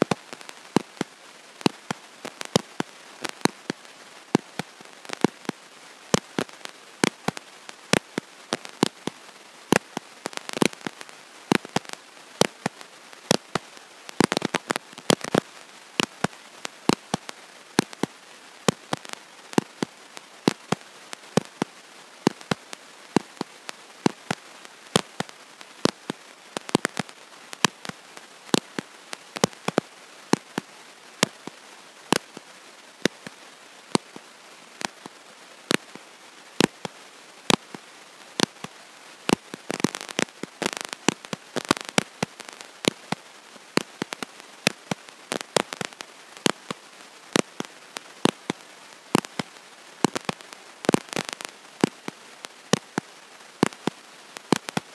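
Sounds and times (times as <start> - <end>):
faint steady hiss: 0.0 - 54.9
irregular clicking and crackling: 0.0 - 54.9.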